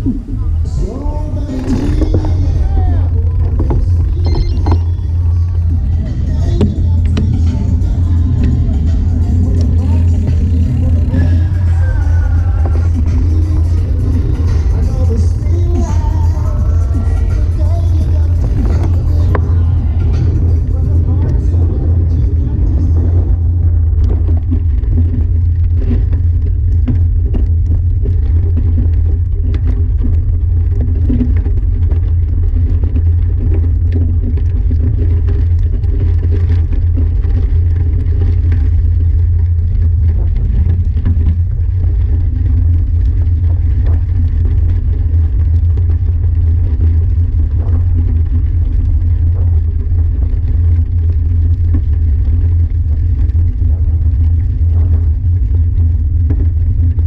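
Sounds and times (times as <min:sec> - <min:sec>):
loose stones crackling: 0:00.0 - 0:57.0
tyres rumbling over gravel: 0:00.0 - 0:57.0
wind buffeting microphone: 0:00.0 - 0:57.0.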